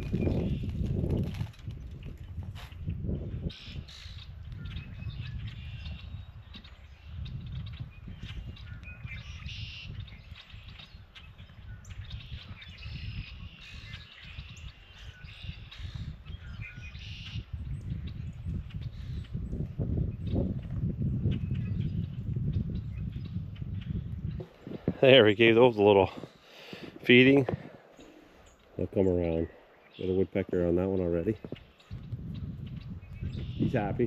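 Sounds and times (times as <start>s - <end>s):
birds chirping: 0.0s - 1.1s, 1.9s - 34.0s
wind on microphone: 0.0s - 34.0s.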